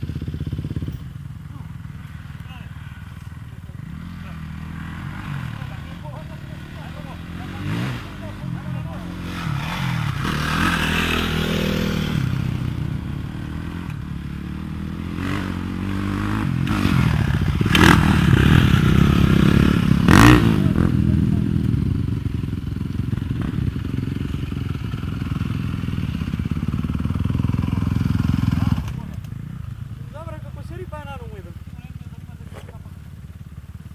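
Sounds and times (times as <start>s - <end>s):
dirt bike engines running: 0.0s - 33.9s.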